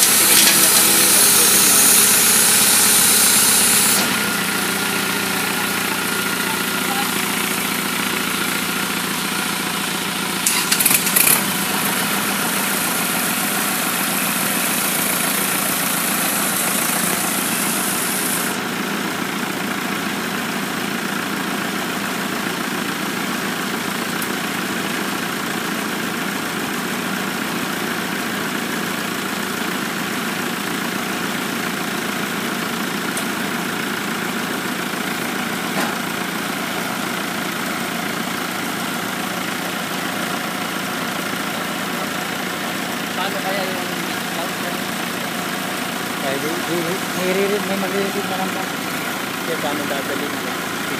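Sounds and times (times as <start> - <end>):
diesel tractor engine idling: 0.0 - 50.9.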